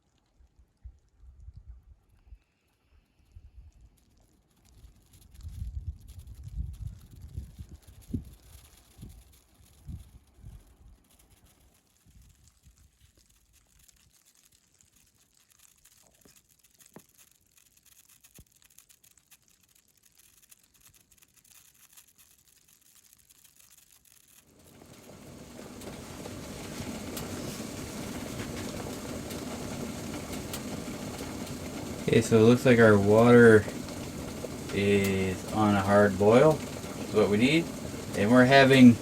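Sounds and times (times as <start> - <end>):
water bubbling at a boil: 0.0 - 39.0
faint clicks: 2.1 - 39.0.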